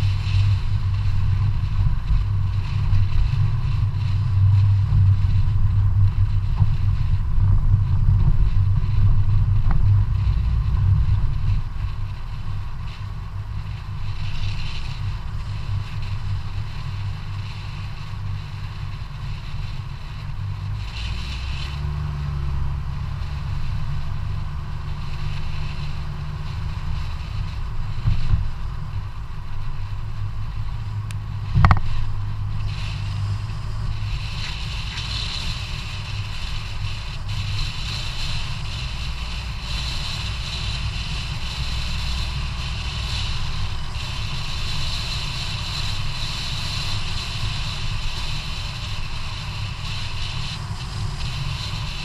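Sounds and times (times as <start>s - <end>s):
tyres rumbling on asphalt: 0.0s - 52.0s
wind buffeting microphone: 0.0s - 52.0s
high hiss: 8.6s - 52.0s.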